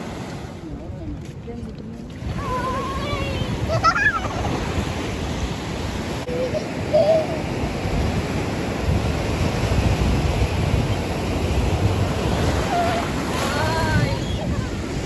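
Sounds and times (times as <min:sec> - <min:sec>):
sea waves breaking on sand: 0:00.0 - 0:15.0.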